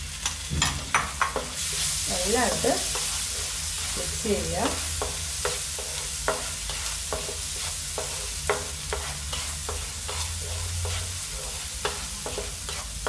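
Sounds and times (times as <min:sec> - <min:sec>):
paste frying in oil: 0:00.0 - 0:13.0
wooden spatula scraping a pan: 0:00.9 - 0:13.0.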